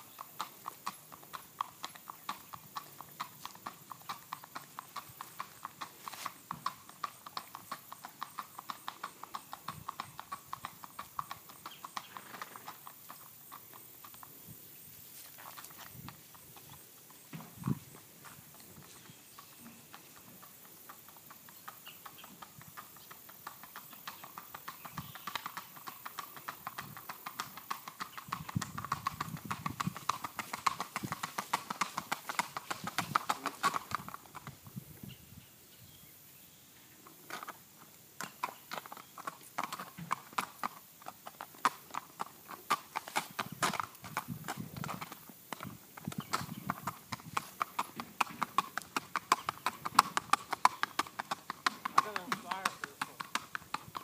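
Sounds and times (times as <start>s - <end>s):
horse hoofbeats: 0.0s - 34.7s, 37.1s - 54.0s.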